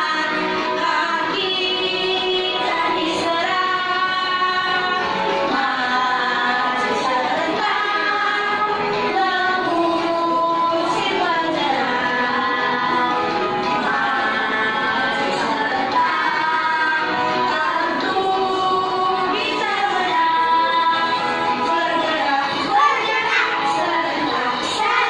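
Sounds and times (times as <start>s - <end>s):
children singing along: 0.0s - 25.0s
woman singing: 0.0s - 25.0s.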